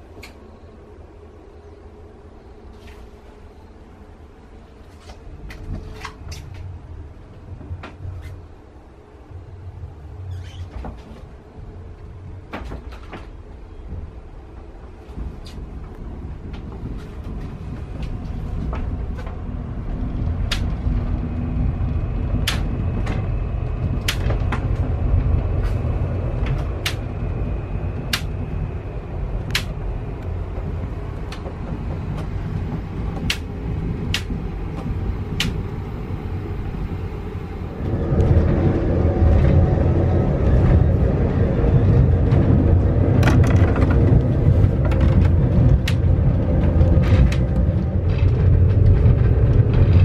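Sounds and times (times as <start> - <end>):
railway carriage rumbling: 0.0 - 50.0.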